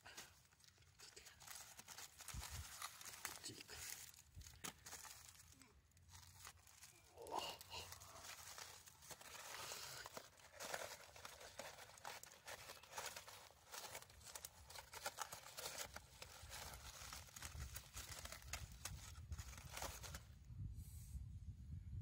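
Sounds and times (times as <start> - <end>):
foil and paper crinkling: 0.0 - 20.3.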